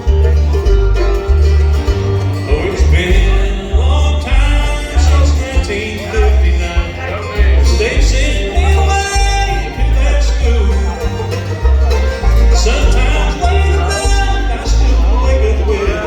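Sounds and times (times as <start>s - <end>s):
banjo picking: 0.0s - 16.0s
guitar picking: 0.0s - 16.0s
walking bass: 0.0s - 16.0s.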